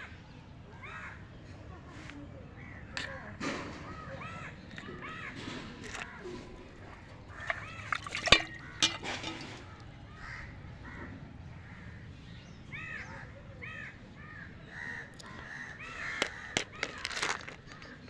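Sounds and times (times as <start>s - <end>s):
birds calling: 2.4s - 18.0s.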